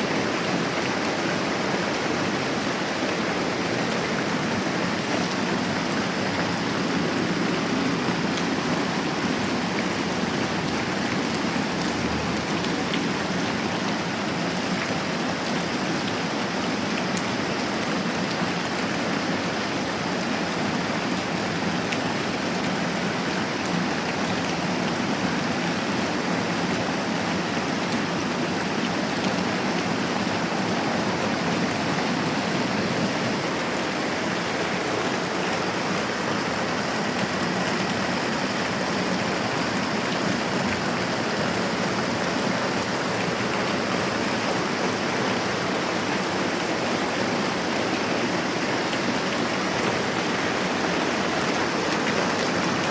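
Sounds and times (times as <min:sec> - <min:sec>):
rain falling steadily: 0:00.0 - 0:52.9.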